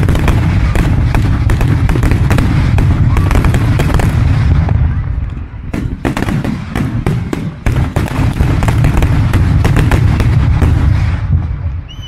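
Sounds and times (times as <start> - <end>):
firework bursts and crackling: 0.0 - 12.0.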